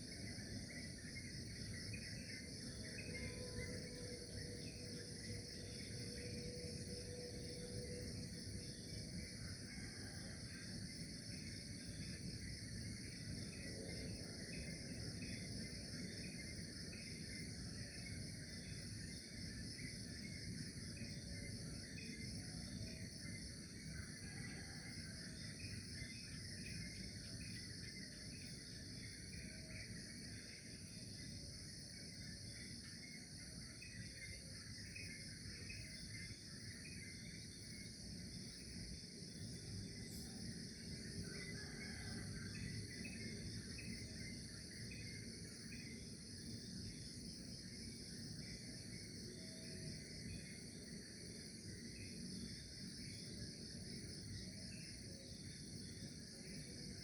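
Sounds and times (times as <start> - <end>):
crickets trilling: 0.0 - 57.0
soft insect chirp: 0.0 - 57.0.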